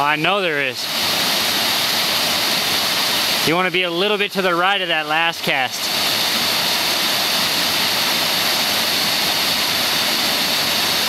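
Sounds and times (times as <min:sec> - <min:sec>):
waterfall pouring into pool: 0:00.1 - 0:11.0.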